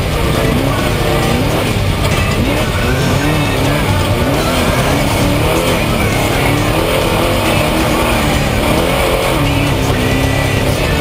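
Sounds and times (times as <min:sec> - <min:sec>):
background music: 0:00.0 - 0:11.0
truck engine running hard: 0:00.0 - 0:11.0.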